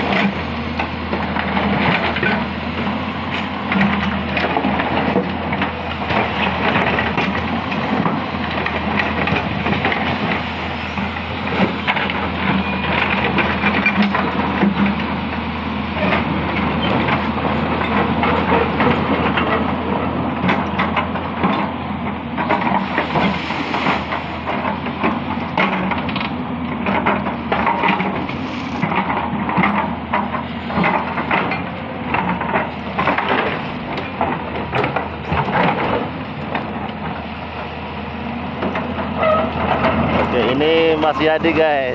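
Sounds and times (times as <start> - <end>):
diesel engine running under load: 0.0 - 41.9
excavator bucket knocking and scraping: 0.0 - 41.9.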